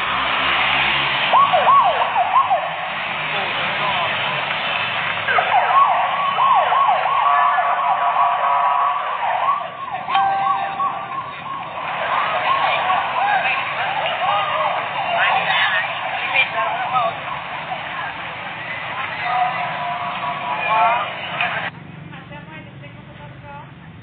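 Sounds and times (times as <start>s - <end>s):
sirens wailing: 0.0s - 21.7s.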